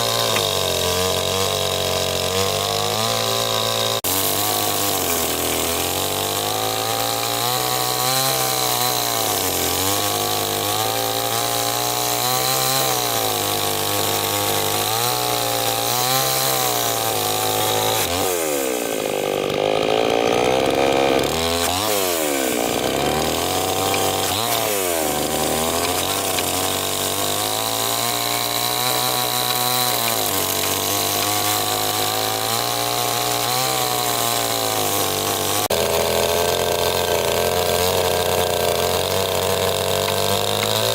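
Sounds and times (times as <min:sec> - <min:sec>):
chainsaw engine cutting: 0:00.0 - 0:40.9.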